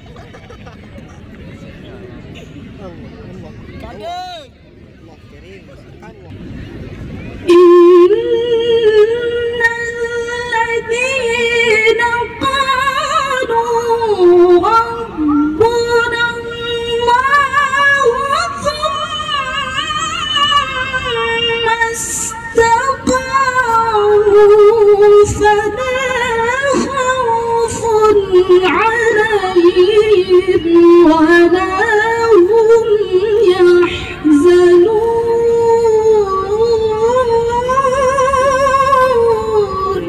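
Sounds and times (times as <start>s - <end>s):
woman reciting melodically: 7.5s - 40.0s.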